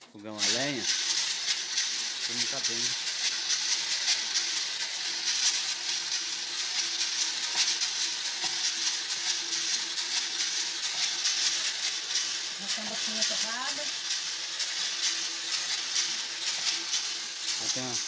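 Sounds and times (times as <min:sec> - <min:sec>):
coffee beans rattling in drum roaster: 0:00.0 - 0:18.0.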